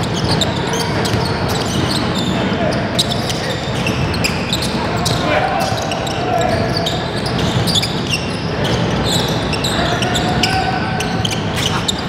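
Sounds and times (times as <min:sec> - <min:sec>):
shoe squeaks: 0:00.0 - 0:12.0
voices in a hall: 0:00.0 - 0:12.0.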